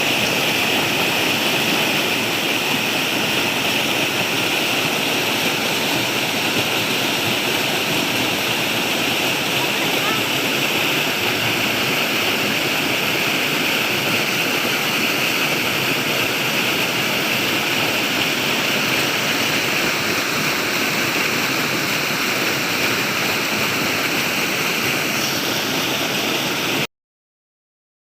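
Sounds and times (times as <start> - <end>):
water rushing: 0.0 - 26.9.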